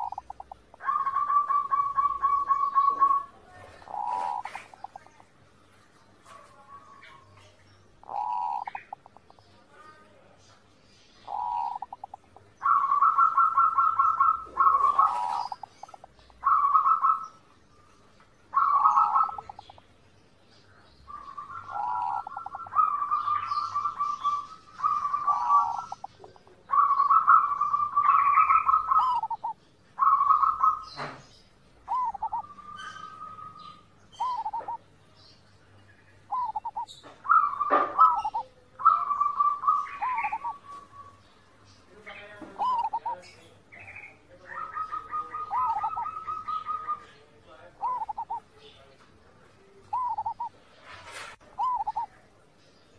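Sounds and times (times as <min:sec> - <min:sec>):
dove cooing: 0:00.0 - 0:05.3, 0:06.2 - 0:09.4, 0:11.2 - 0:19.8, 0:21.1 - 0:34.9, 0:36.3 - 0:41.3, 0:42.1 - 0:48.7, 0:49.8 - 0:52.3.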